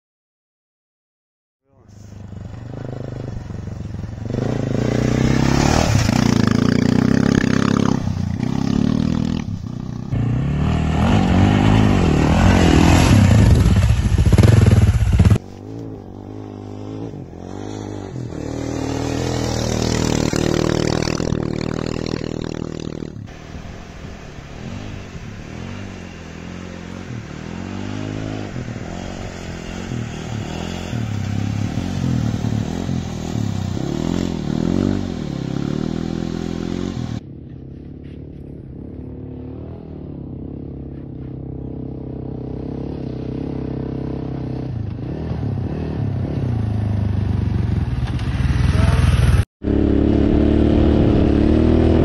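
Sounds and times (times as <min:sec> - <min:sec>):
motorcycle engine revving: 0:02.0 - 0:52.0.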